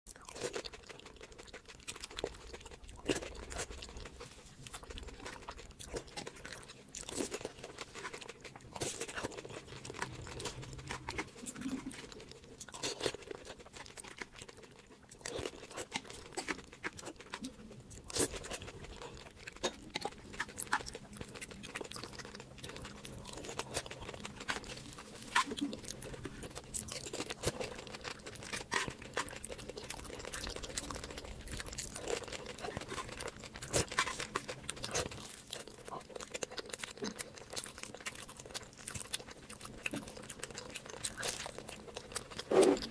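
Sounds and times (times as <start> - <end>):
crunchy food being chewed: 0.1 - 42.9.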